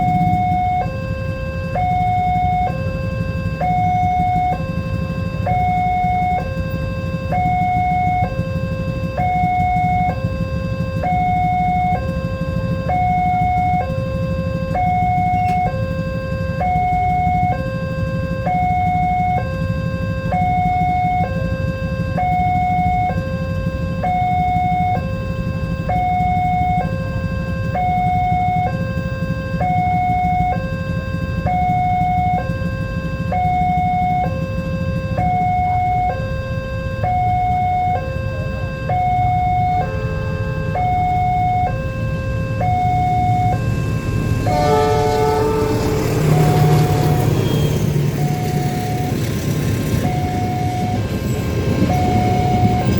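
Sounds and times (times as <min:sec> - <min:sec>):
steady low rumble: 0:00.0 - 0:52.9
two-tone level-crossing alarm: 0:00.0 - 0:52.9.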